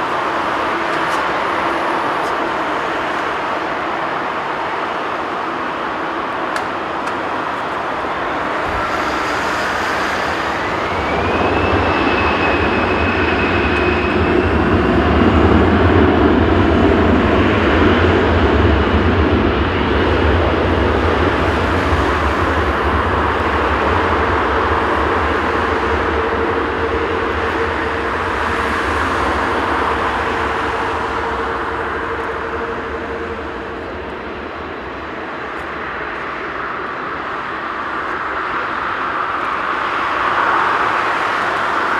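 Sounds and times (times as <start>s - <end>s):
jet engines spooling up: 0.0s - 41.9s.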